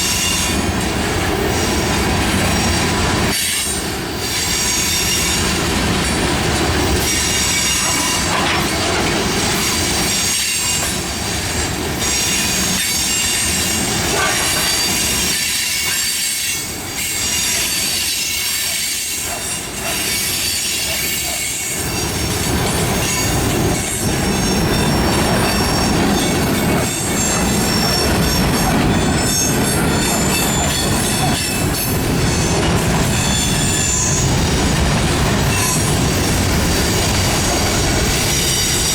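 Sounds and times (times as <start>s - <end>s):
train wheels squealing: 0.0s - 0.8s, 1.4s - 38.9s
low rumble of train cars: 0.0s - 38.9s.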